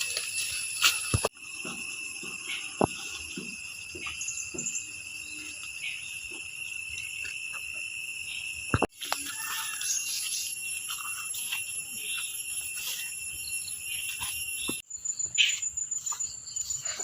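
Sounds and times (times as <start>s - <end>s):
shrill insect chorus: 0.0s - 17.0s.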